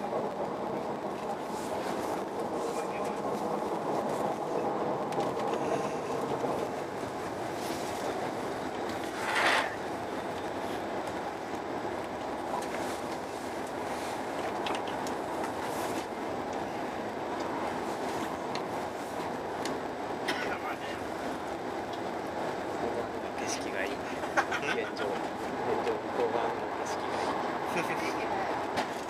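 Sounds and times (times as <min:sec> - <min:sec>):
train cabin rumble and rush: 0:00.0 - 0:29.0.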